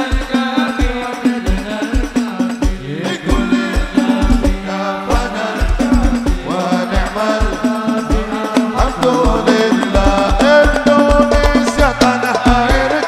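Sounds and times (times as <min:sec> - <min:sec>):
frame drums: 0:00.0 - 0:13.0.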